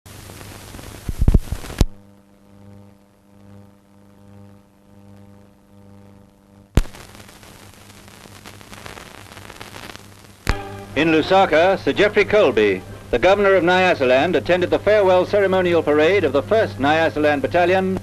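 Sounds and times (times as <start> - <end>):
film hiss and crackle: 0.1 - 18.0
mains hum: 0.1 - 18.0.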